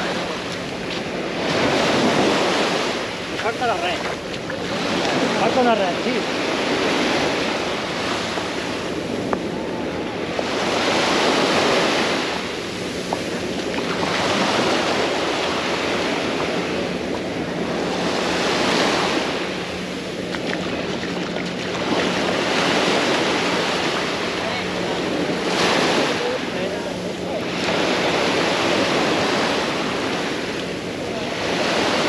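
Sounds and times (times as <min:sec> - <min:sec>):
waves washing up a sandy beach: 0:00.0 - 0:32.0.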